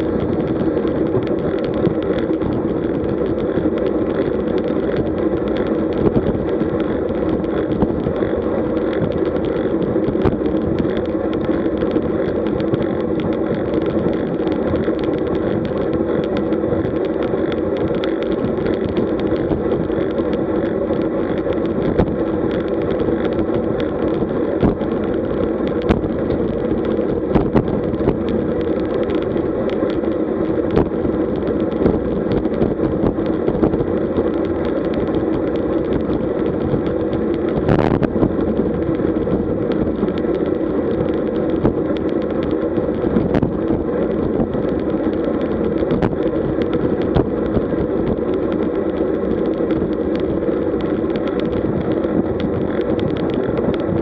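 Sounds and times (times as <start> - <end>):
bicycle tyre noise: 0.0 - 54.0
wind rush: 0.0 - 54.0.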